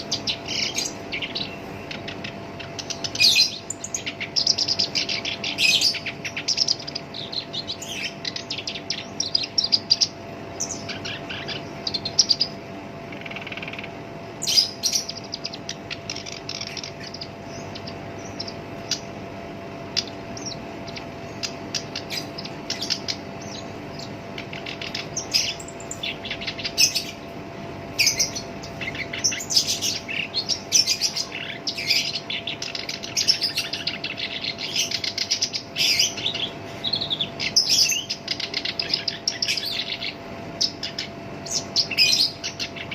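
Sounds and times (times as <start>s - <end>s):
faint steady hum: 0.0s - 42.9s
warbler chattering song: 0.0s - 42.9s.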